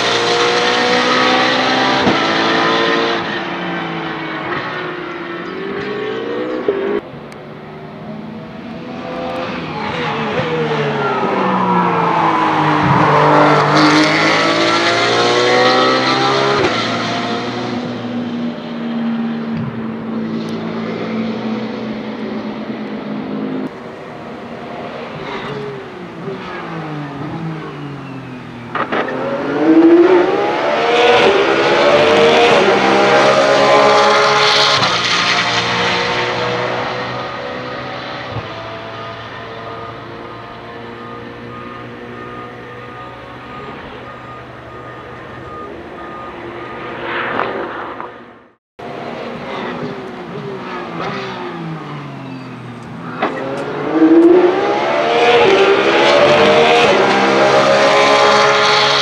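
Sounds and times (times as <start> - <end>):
race car passing at speed: 0.0 - 59.0.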